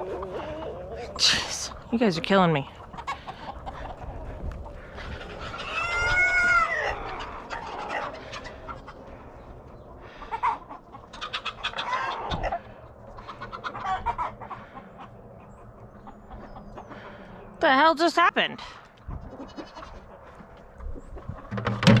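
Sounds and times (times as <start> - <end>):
chickens clucking and squawking: 0.0 - 17.6, 18.6 - 22.0.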